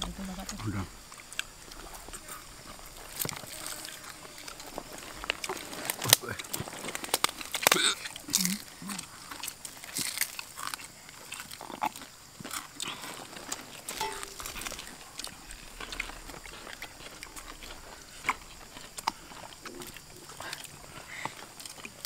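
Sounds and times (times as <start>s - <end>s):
chewing and mouth smacking: 1.1s - 22.0s.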